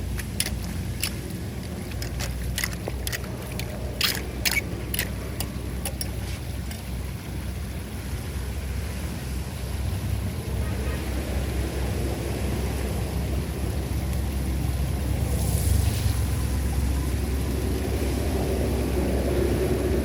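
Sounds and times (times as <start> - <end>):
floodwater rushing into drain: 0.0 - 20.0.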